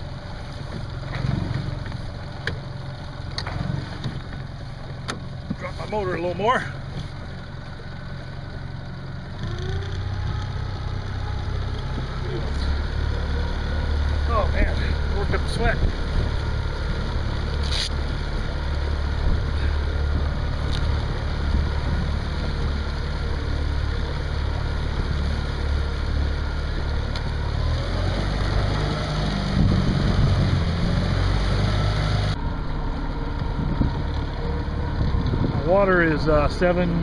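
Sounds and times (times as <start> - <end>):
outboard motor humming: 0.0 - 37.0.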